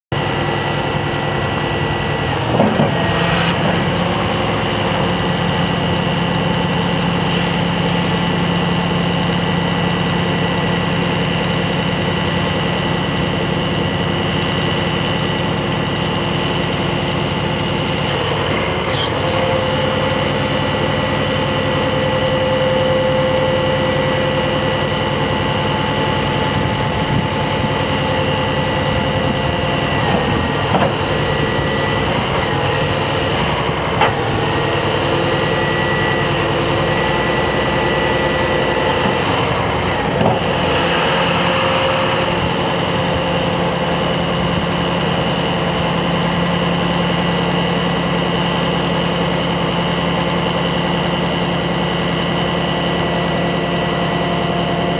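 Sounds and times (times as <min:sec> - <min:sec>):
diesel truck engine idling: 0:00.1 - 0:03.4, 0:04.0 - 0:54.9.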